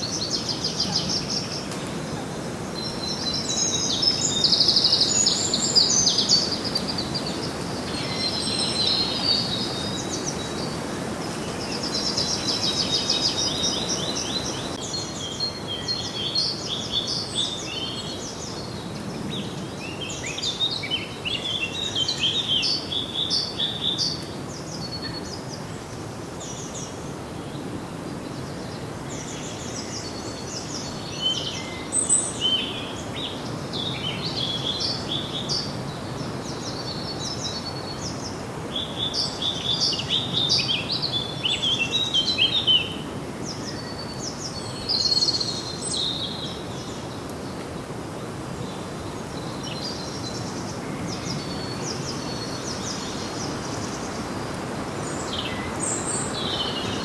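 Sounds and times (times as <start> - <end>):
background hiss: 0.0 - 18.6, 28.3 - 57.0
songbirds trilling and chirping: 0.0 - 25.7, 26.4 - 57.0.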